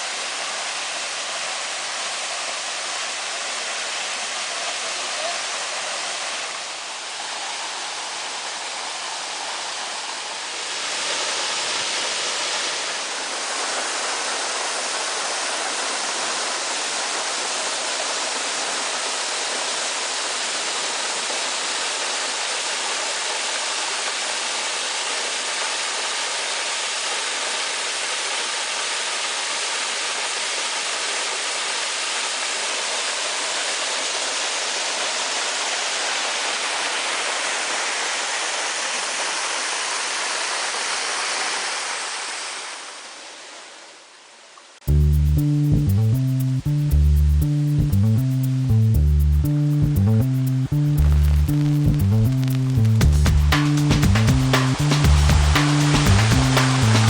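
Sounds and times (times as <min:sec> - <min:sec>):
waterfall rushing: 0:00.0 - 0:44.2, 0:49.6 - 0:57.0.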